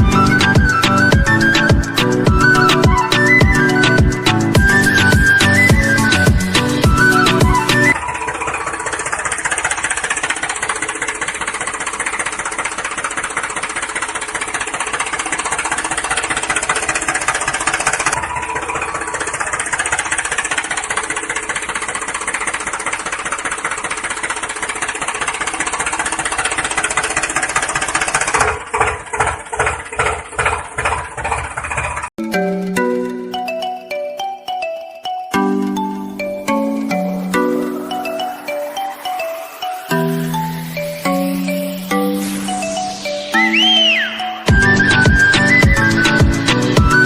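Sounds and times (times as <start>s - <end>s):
engine chugging: 0.0s - 34.6s, 35.2s - 47.0s.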